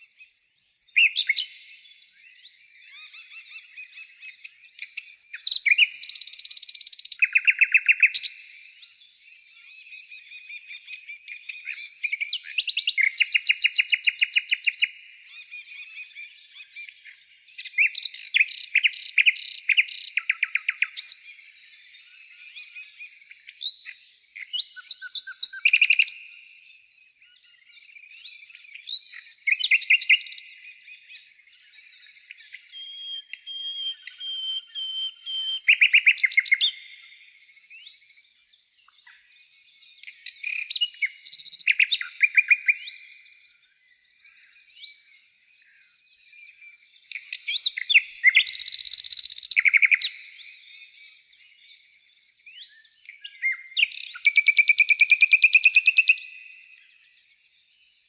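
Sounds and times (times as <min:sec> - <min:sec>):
faint bird chirps and calls: 0:00.0 - 0:58.0
songbirds chirping trills: 0:00.0 - 0:58.0.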